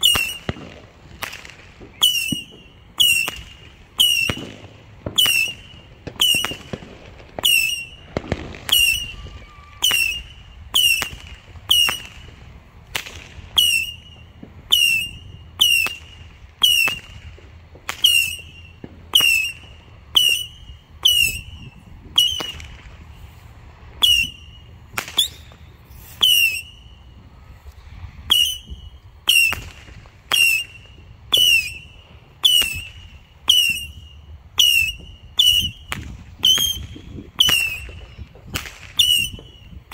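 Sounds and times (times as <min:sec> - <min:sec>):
fireworks whistle and crack: 0:00.0 - 0:39.9.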